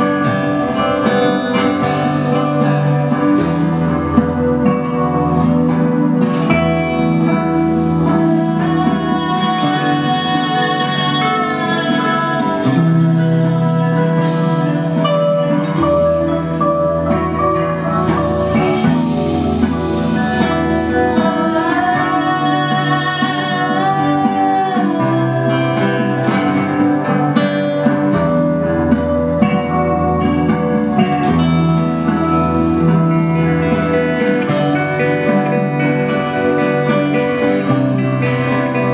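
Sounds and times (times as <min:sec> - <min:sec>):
acoustic guitar: 0:00.0 - 0:38.9
bass line: 0:00.0 - 0:38.9
live band playing: 0:00.0 - 0:38.9.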